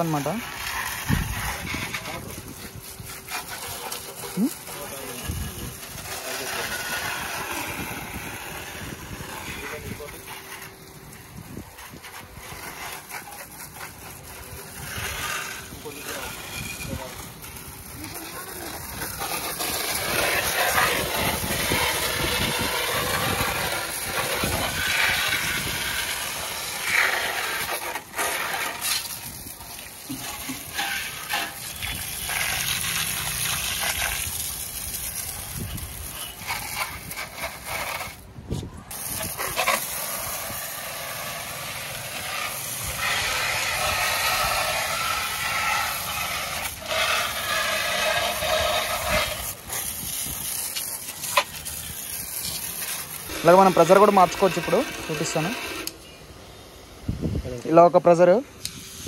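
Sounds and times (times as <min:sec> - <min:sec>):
pressure washer water jet hissing: 0:00.0 - 0:59.0.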